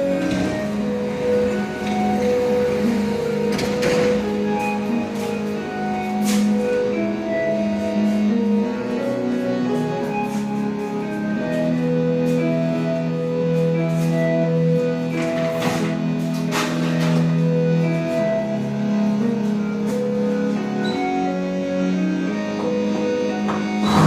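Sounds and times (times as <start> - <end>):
instrumental music with held notes: 0.0 - 24.0.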